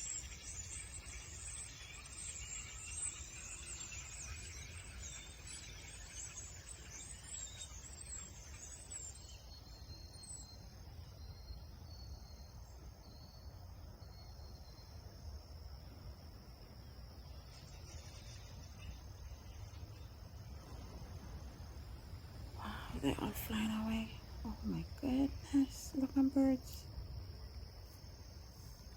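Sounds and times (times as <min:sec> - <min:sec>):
flock of small birds chattering: 0:00.0 - 0:28.9.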